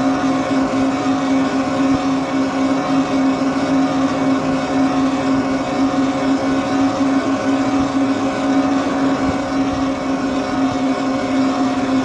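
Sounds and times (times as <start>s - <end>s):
electric bike motor whine: 0.0s - 12.0s.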